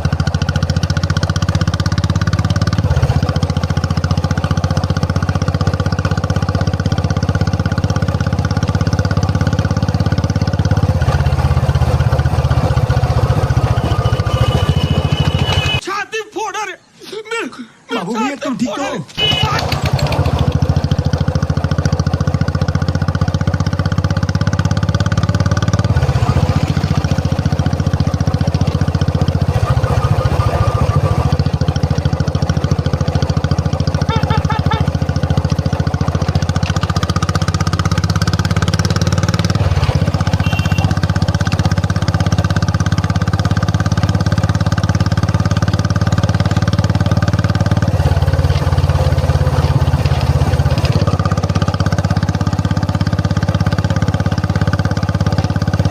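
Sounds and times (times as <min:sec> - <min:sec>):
motorcycle engine running: 0:00.0 - 0:15.8, 0:19.2 - 0:55.9.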